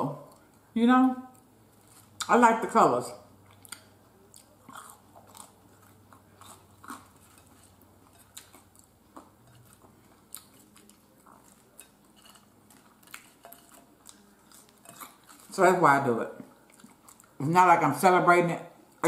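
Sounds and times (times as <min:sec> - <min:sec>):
faint chewing and smacks: 0:00.1 - 0:02.4, 0:03.2 - 0:17.4.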